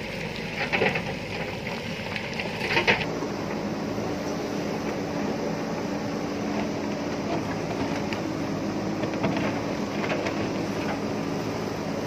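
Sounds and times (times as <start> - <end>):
backhoe digging into soil and rock: 0.0 - 3.6, 4.6 - 12.0
diesel engine running under load: 0.0 - 12.0.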